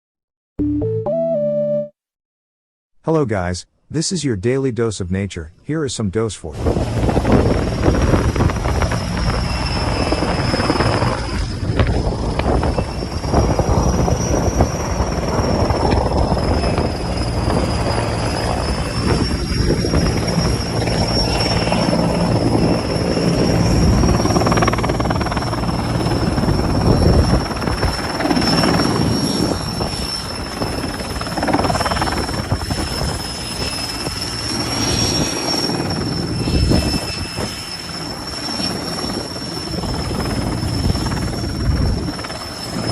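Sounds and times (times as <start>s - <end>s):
helicopter rotor blades throbbing: 6.6s - 42.9s
turbine whine: 6.6s - 42.9s.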